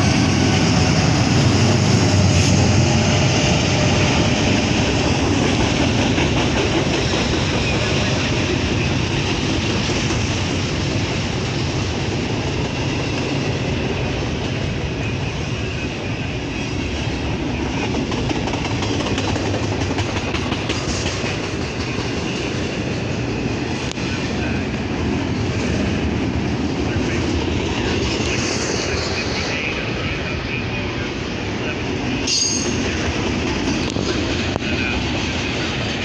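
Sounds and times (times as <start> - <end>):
freight train wheels on rails: 0.0 - 36.0.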